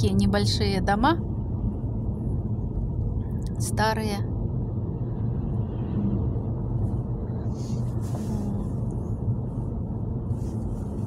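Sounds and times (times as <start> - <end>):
car cabin engine rumble: 0.0 - 11.0.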